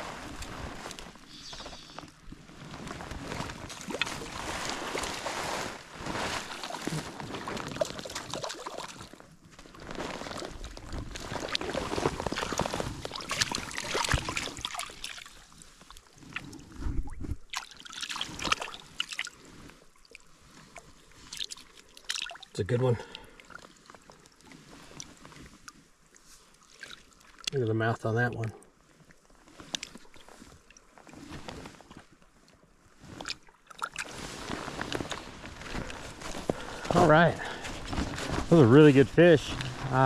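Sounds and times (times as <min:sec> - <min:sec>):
water splashing and sloshing: 0:00.0 - 0:40.0.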